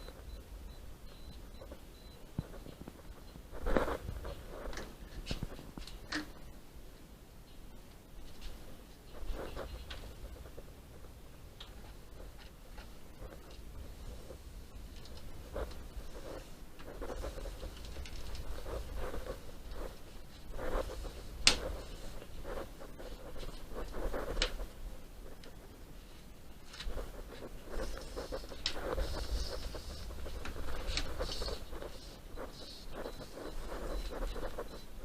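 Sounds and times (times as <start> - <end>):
scratching and shuffling: 0.0 - 6.5, 8.0 - 35.0.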